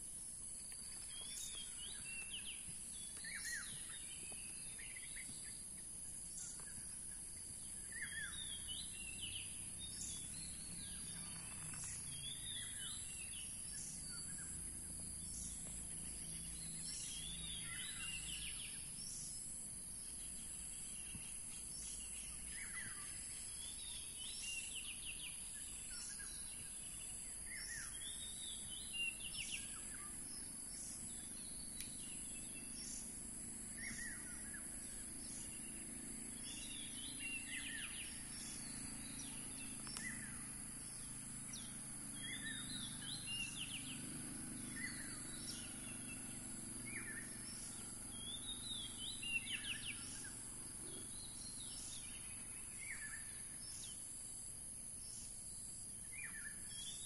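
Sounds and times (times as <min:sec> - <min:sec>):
high hiss of background noise: 0:00.0 - 0:57.0
birds chirping: 0:00.2 - 0:54.1.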